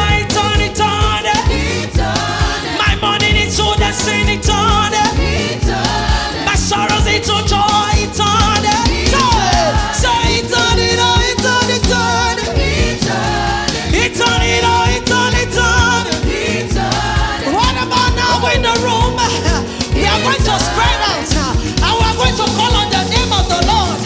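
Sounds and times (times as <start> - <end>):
band with steady beat: 0.0 - 24.0
voices singing gospel: 0.0 - 24.0.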